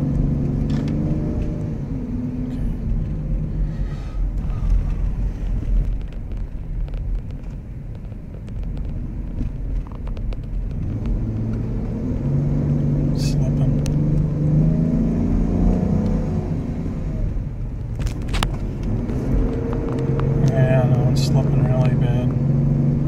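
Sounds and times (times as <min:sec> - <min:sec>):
car engine revving: 0:00.0 - 0:07.8, 0:08.5 - 0:23.0
road rumble: 0:00.0 - 0:23.0.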